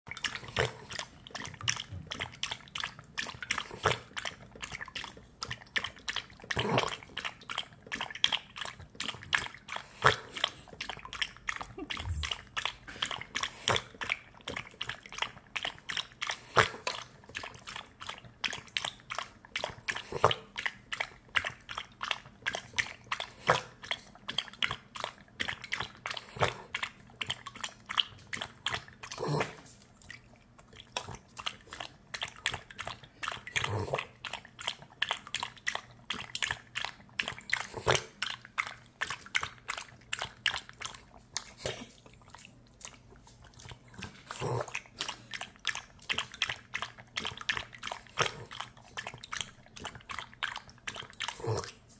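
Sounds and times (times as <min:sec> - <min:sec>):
dog lapping water from metal bowl: 0:00.1 - 0:51.9.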